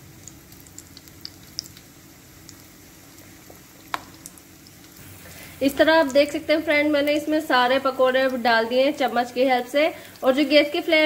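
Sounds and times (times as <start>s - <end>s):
fritters frying in hot oil: 0.0s - 11.0s.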